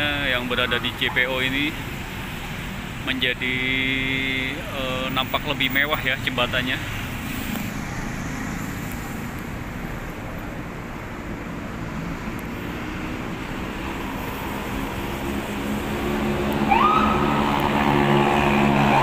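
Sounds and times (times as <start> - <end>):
passing cars rumbling: 0.0 - 19.0.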